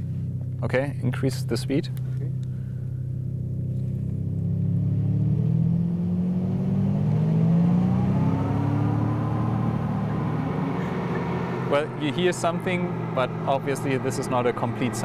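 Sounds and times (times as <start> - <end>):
rising mechanical hum: 1.8 - 15.0.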